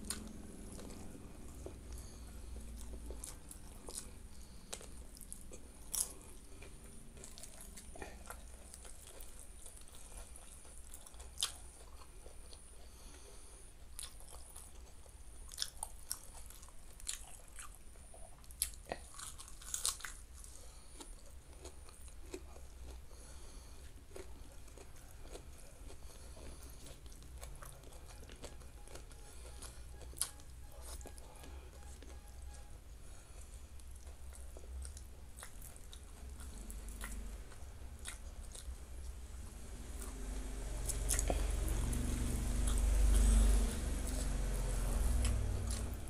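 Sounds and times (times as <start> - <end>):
chewing rice: 0.0 - 46.0
steady low hum: 0.0 - 46.0.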